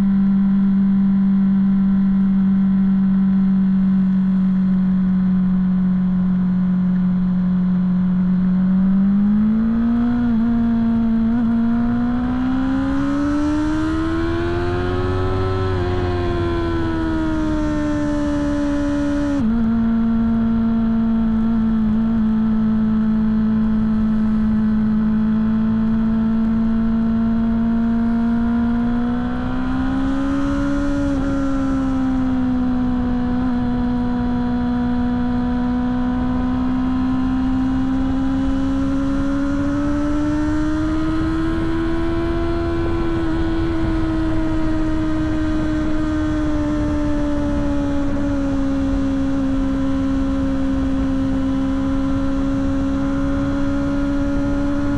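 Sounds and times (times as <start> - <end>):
motorcycle engine at high revs: 0.0 - 54.9.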